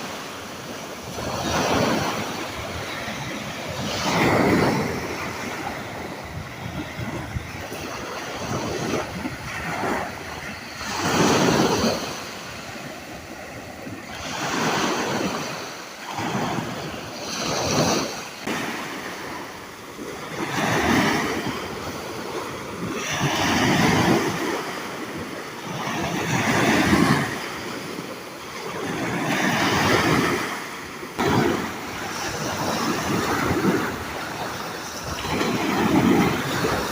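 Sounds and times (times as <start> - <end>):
sea waves breaking: 0.0 - 36.9.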